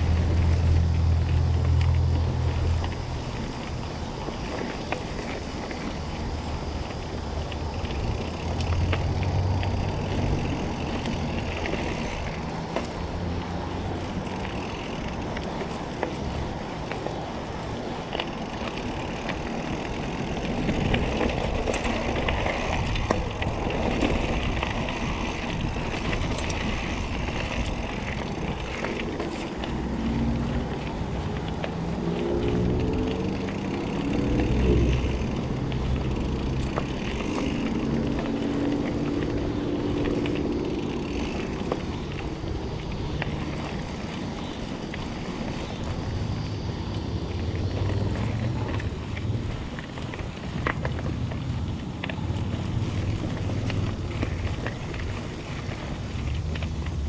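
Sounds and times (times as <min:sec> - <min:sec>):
bike tyres on dirt: 0:00.0 - 0:57.0.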